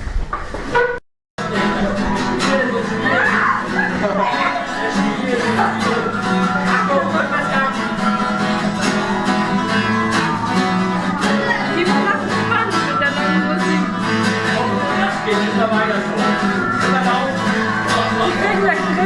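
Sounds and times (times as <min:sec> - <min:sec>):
acoustic guitar strummed: 0:00.8 - 0:19.0.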